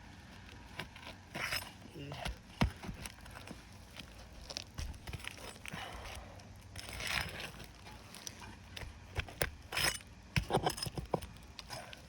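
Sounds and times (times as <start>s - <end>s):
pry tool scraping shingles: 0.7s - 6.2s, 6.8s - 12.0s.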